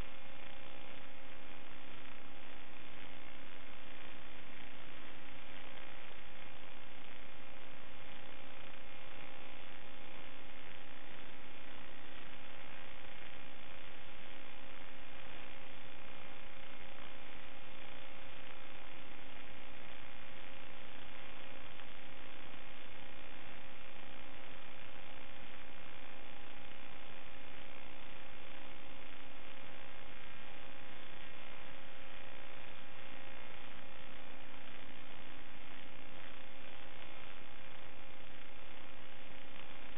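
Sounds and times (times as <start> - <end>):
electronic hum and hiss: 0.0 - 39.9.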